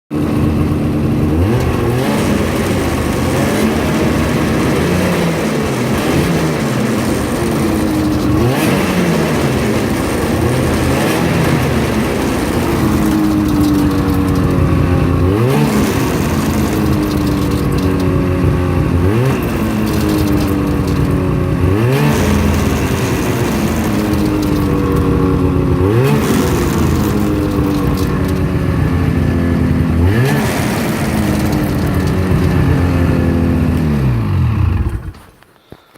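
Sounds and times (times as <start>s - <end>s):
snowmobile engine idling and revving: 0.1s - 35.8s.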